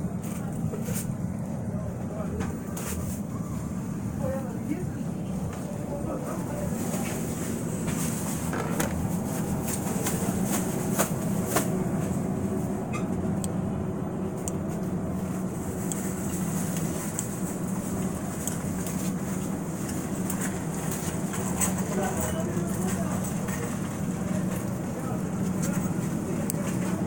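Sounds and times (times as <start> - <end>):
refrigerated cases humming: 0.0 - 27.0.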